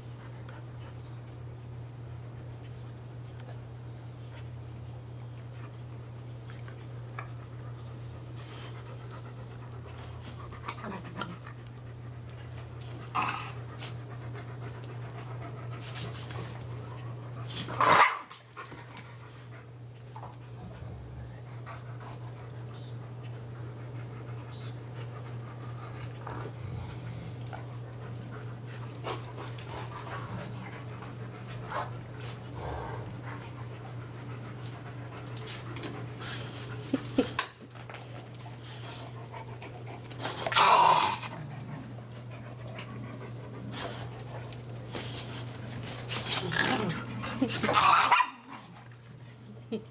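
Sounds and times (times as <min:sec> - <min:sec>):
steady low hum: 0:00.0 - 0:49.9
dogs panting: 0:03.5 - 0:17.7, 0:18.5 - 0:40.5, 0:41.3 - 0:47.7.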